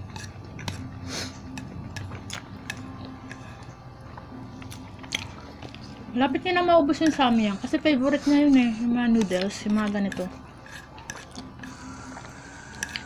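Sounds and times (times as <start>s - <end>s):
chewing: 0.0s - 6.1s, 6.9s - 13.0s
soft background music: 0.0s - 13.0s.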